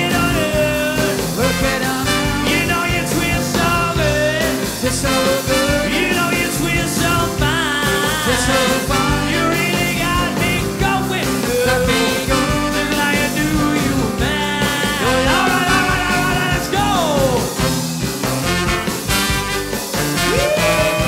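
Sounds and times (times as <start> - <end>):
swing band music: 0.0 - 21.0.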